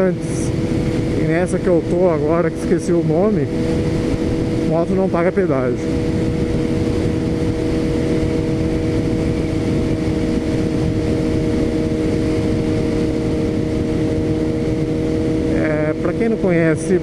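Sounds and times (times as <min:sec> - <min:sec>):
motorcycle engine cruising: 0:00.0 - 0:17.0
wind noise on microphone: 0:00.0 - 0:17.0.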